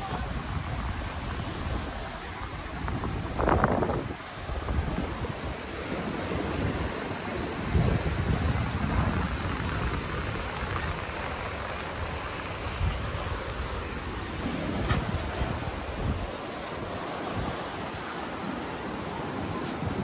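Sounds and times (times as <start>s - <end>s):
sea surf rushing: 0.0s - 20.0s
wind buffeting microphone: 0.0s - 20.0s.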